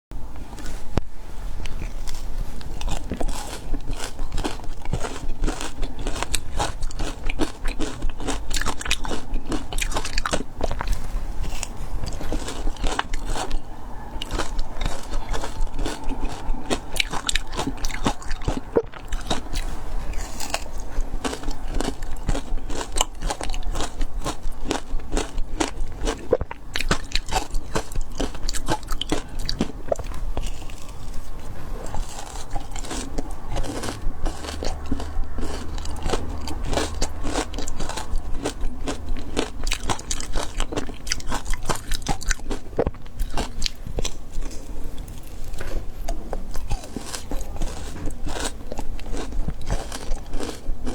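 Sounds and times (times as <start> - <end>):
ice being chewed with crunches: 1.6 - 50.9.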